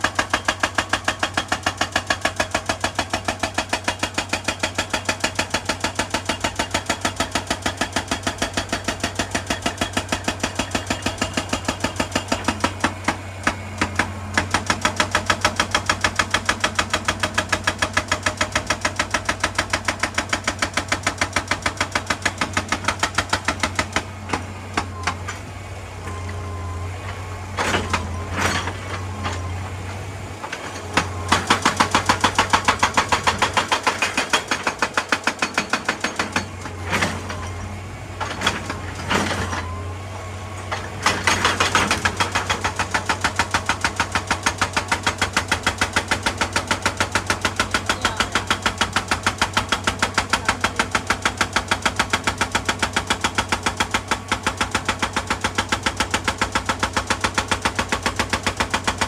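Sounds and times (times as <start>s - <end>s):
hydraulic breaker hammering rock: 0.0s - 59.0s
diesel engine running: 10.1s - 35.3s, 36.2s - 58.9s.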